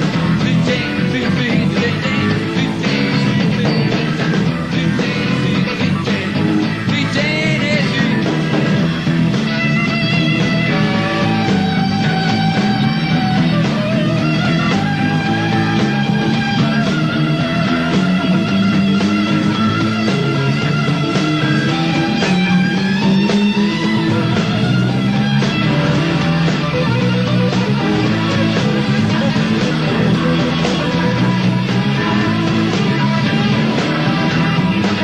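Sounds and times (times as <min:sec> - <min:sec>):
electric lead guitar bending notes: 0:00.0 - 0:35.0
live rock band playing: 0:00.0 - 0:35.0.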